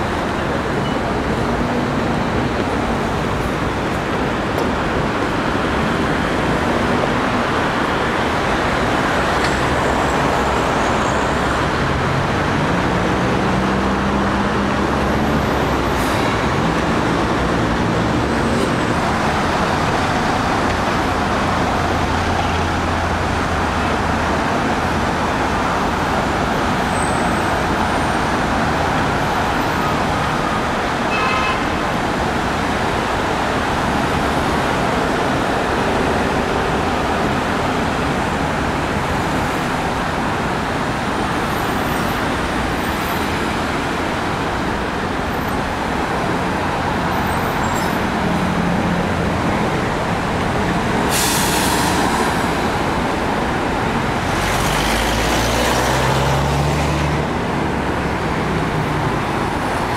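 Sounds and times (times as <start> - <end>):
road traffic with cars passing: 0.0 - 59.9.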